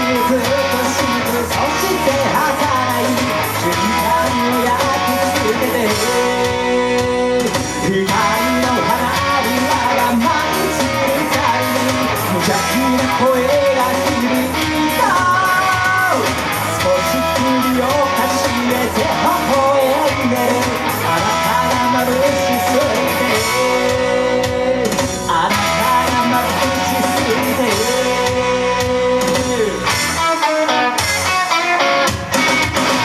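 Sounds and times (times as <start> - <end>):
guitar long held notes: 0.0 - 33.0
rock band playing: 0.0 - 33.0.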